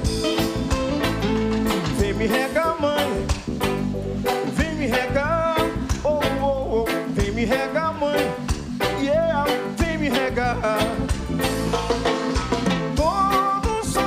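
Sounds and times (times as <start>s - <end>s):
live reggae band playing: 0.0s - 14.0s.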